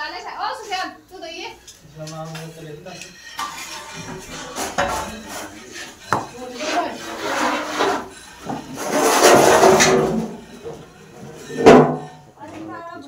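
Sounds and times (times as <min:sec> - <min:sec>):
wooden paddles scraping metal pans: 0:00.2 - 0:13.0.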